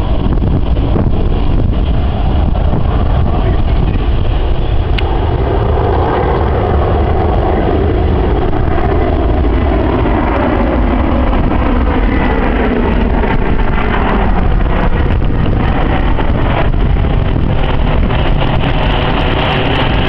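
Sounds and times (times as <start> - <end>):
jet aircraft flying overhead: 0.0 - 20.0.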